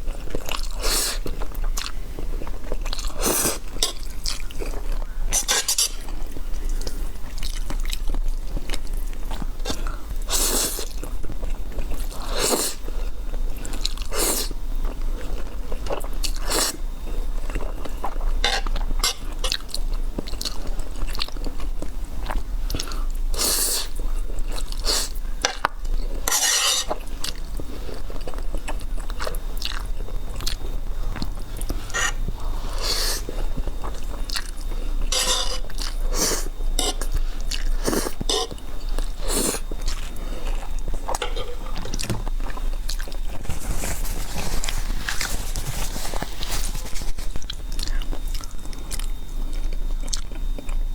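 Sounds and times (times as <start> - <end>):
close chewing of food: 0.0 - 50.9.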